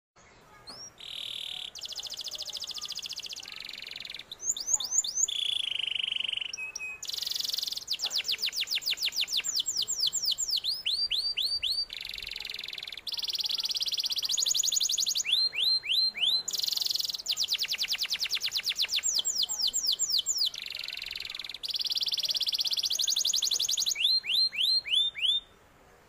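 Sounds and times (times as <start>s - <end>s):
canary singing trills: 0.3s - 25.6s.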